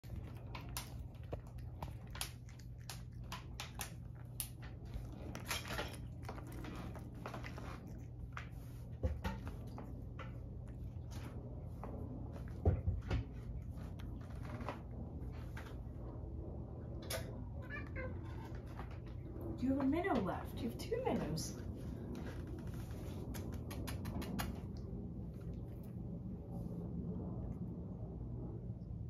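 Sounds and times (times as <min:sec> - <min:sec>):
cat crunching and chewing food: 0:00.0 - 0:16.3, 0:18.2 - 0:26.6
steady low hum: 0:00.0 - 0:29.0.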